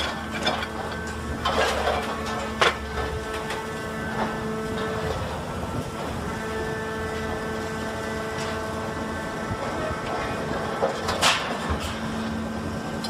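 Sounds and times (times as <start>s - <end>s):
hydraulic shear humming: 0.0s - 13.0s.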